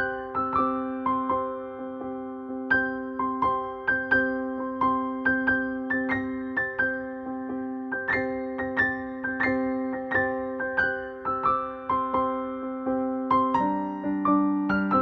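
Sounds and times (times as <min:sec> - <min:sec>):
gentle keyboard melody: 0:00.0 - 0:15.0.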